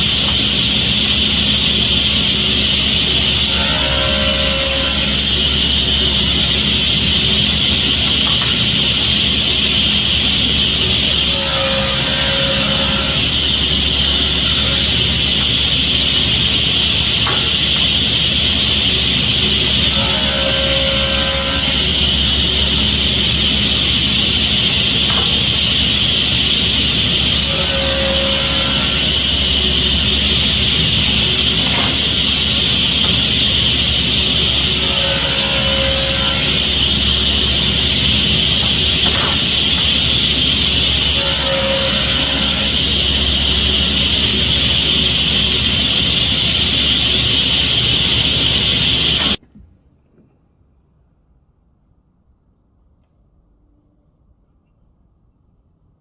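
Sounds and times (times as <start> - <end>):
woodworking power tool running: 0.0 - 49.4.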